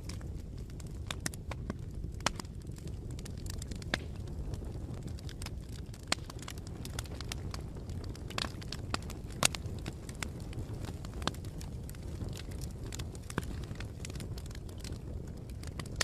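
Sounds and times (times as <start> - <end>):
burning wood crackling and popping: 0.0 - 16.0
fire flames roaring: 0.0 - 16.0.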